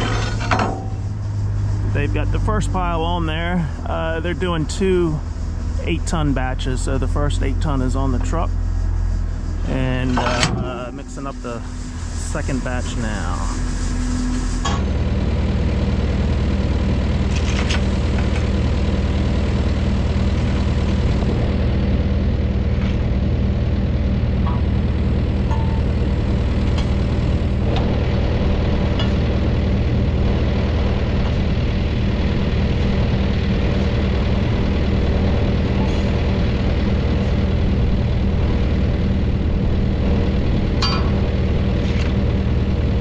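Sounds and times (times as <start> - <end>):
large engine idling: 0.0 - 43.0.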